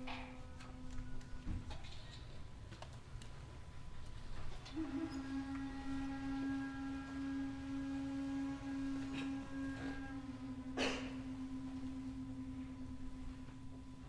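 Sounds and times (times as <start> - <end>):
bamboo flute long low note: 0.0 - 1.9, 4.6 - 14.0.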